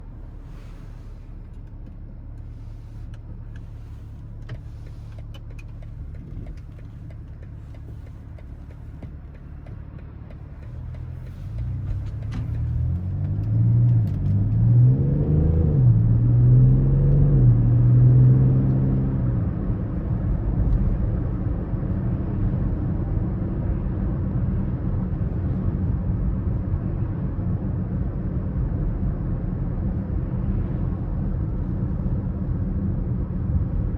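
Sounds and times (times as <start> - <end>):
diesel car engine accelerating: 0.0 - 33.9.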